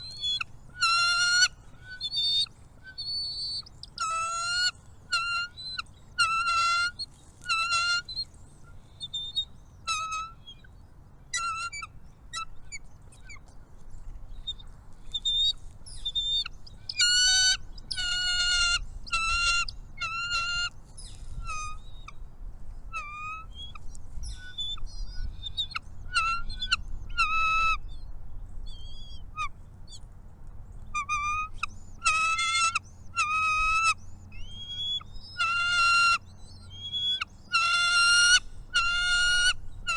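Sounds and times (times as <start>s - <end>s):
faint high bird chirps: 0.0s - 22.2s, 22.8s - 30.0s, 30.9s - 39.9s
birds calling repeatedly: 0.0s - 30.1s, 30.7s - 39.9s.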